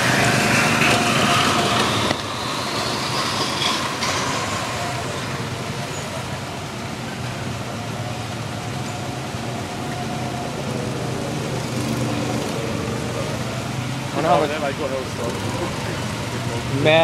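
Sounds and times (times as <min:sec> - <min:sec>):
drone of go-kart engines: 0:00.0 - 0:17.0
go-kart engine accelerating: 0:00.0 - 0:17.0.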